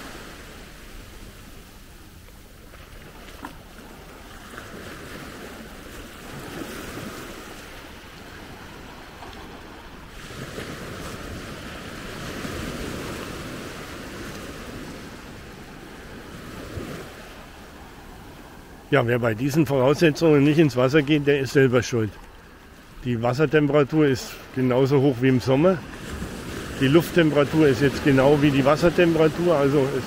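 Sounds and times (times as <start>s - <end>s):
small surf washing on beach: 0.0s - 30.0s.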